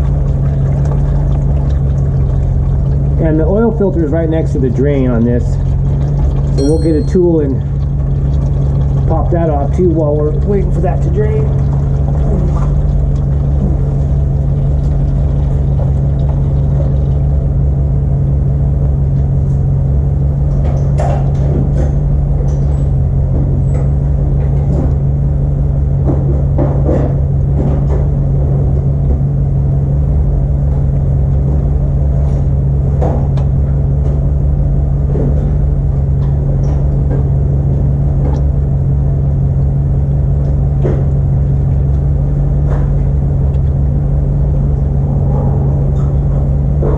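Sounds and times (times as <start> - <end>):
low mechanical hum and rumble: 0.0 - 46.9.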